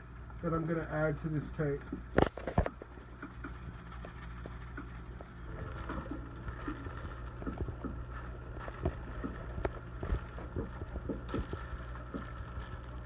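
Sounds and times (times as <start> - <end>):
low hum: 1.8 - 13.0
rustling: 2.2 - 13.0.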